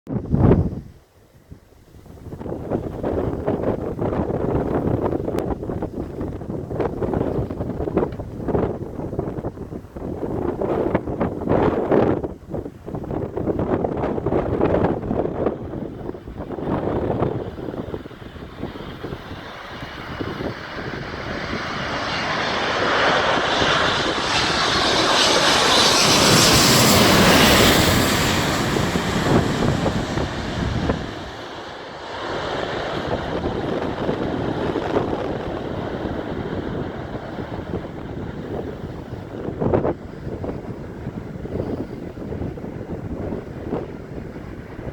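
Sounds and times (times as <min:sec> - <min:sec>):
jet engines passing: 0:02.4 - 0:44.9.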